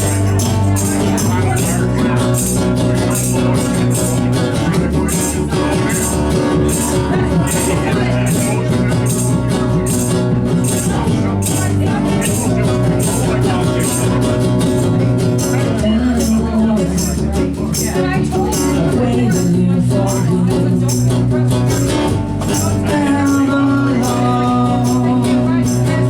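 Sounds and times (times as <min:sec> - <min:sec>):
low bass notes: 0:00.0 - 0:26.0
rock band playing: 0:00.0 - 0:26.0.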